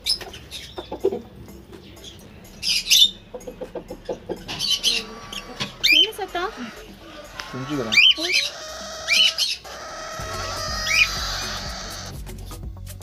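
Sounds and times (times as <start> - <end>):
lovebirds shrill chirps and squawks: 0.0 - 12.6
low bird chattering calls: 0.0 - 12.6.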